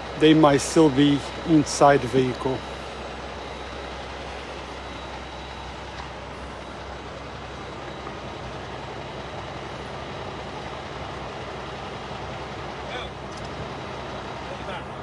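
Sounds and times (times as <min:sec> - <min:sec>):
road noise: 0:00.0 - 0:15.0
vehicle engines rumbling: 0:00.0 - 0:15.0.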